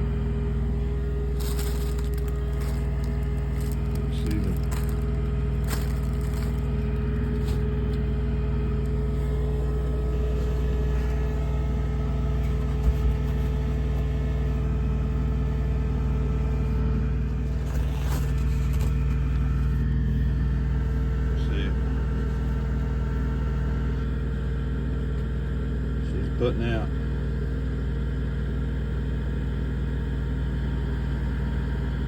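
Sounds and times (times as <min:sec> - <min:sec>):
small engine running steadily: 0:00.0 - 0:32.0.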